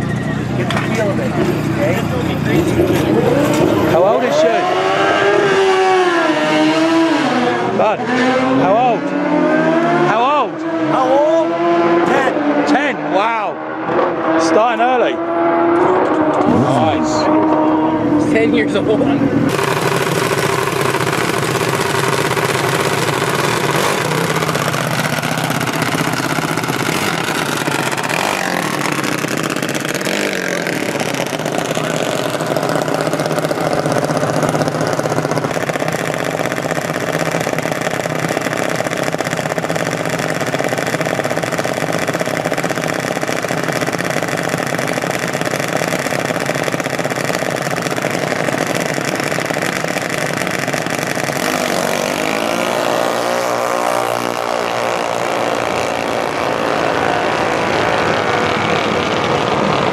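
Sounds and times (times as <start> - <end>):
small engines revving and droning: 0.0 - 59.9.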